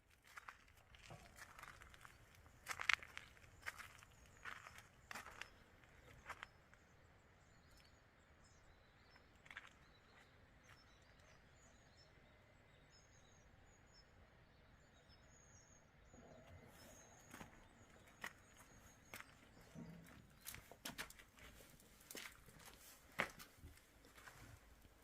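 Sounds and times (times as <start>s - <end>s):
faint high bird chirps: 0.4s - 6.8s, 7.5s - 21.2s.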